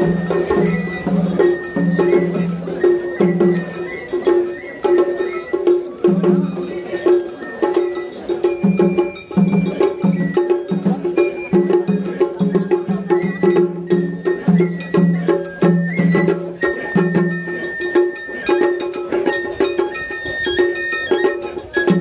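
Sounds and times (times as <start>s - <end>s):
festival music with percussive beat: 0.0s - 22.0s.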